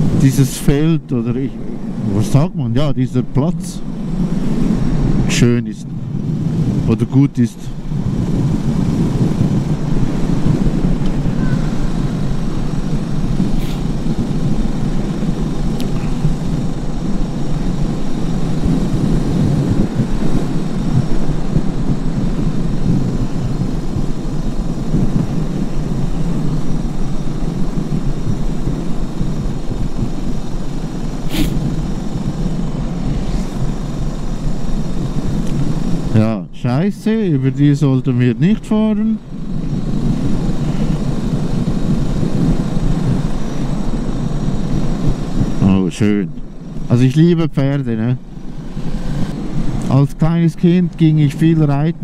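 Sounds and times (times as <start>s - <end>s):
road noise: 0.0s - 52.0s
wind rush over microphone: 0.0s - 52.0s.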